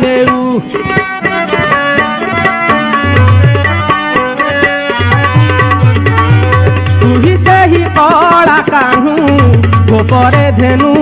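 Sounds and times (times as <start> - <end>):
hand drum percussion: 0.0 - 11.0.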